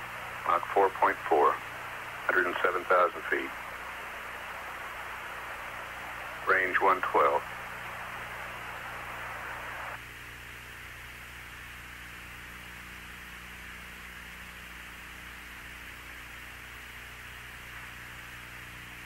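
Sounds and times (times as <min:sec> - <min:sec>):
electrical hum: 0:00.0 - 0:19.0
radio static hiss: 0:00.0 - 0:19.0.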